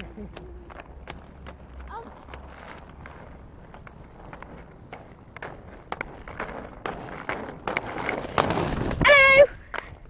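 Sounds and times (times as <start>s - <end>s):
skate wheels rolling on asphalt: 0.0s - 10.0s.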